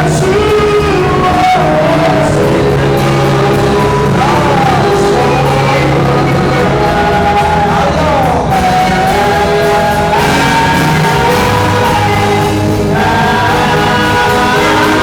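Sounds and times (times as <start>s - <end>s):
gospel singing: 0.0s - 15.0s
sustained instrumental backing: 0.0s - 15.0s.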